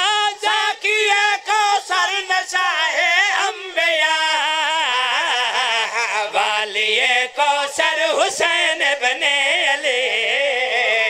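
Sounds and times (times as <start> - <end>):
men singing over loudspeakers: 0.0 - 11.0.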